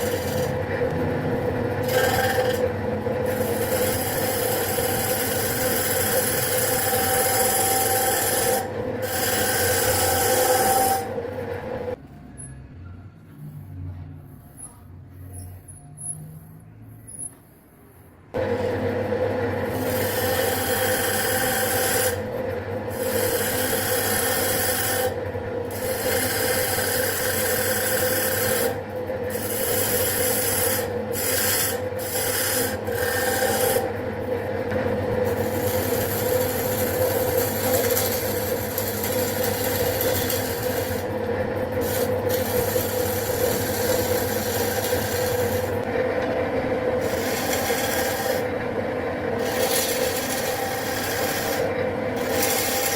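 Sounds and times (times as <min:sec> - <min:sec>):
tool scraping spinning wood: 0:00.0 - 0:12.0, 0:18.3 - 0:52.9
wood lathe motor hum: 0:00.0 - 0:12.0, 0:18.4 - 0:34.0, 0:34.6 - 0:52.9.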